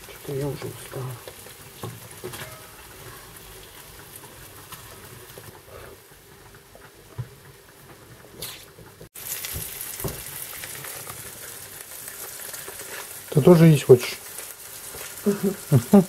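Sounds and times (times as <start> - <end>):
hot oil sizzling in a frying pan: 0.0 - 16.0.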